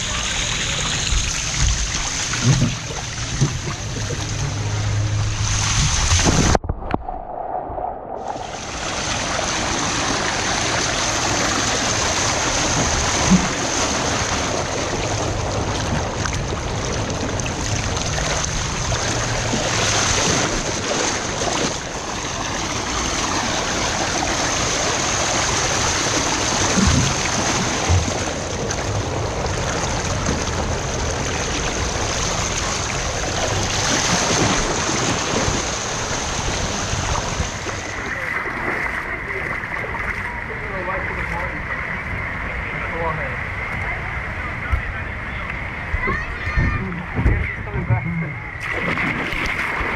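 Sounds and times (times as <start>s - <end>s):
loud water splashes: 0.0s - 47.6s, 48.6s - 49.9s
rushing and splashing water: 0.0s - 49.9s.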